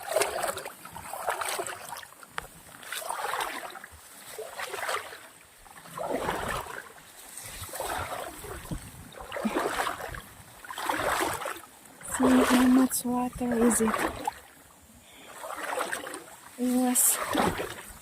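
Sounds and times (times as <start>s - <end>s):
floodwater sloshing and splashing: 0.0s - 18.0s.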